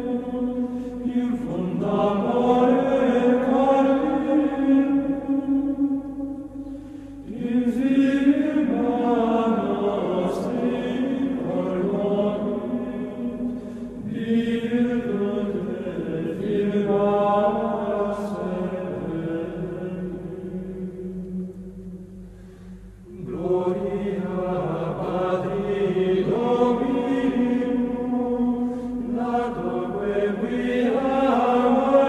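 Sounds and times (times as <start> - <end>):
voices singing slow chant: 0.0 - 32.0.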